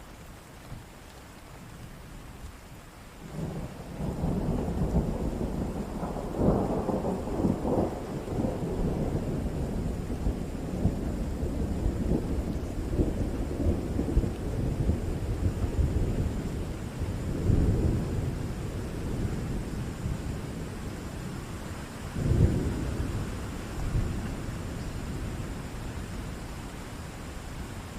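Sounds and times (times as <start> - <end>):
steady rain: 0.0 - 27.9
thunder rumbling: 3.3 - 27.9.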